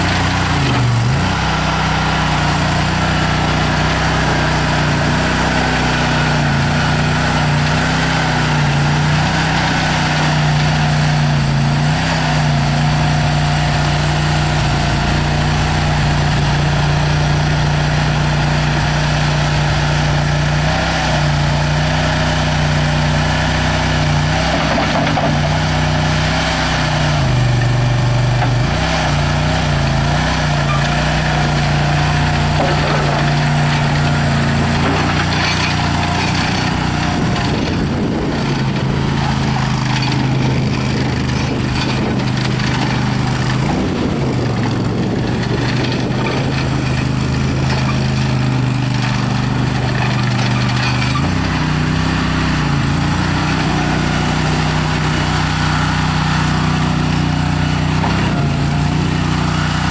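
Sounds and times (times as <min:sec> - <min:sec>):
engine running under load: 0:00.0 - 0:59.9.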